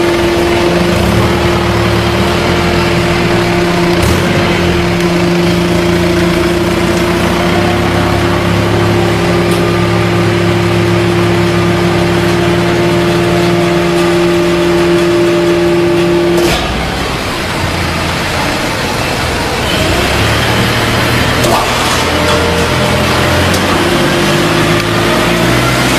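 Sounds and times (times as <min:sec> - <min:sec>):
baler machine hum: 0:00.0 - 0:25.9
rough machine noise: 0:00.0 - 0:25.9.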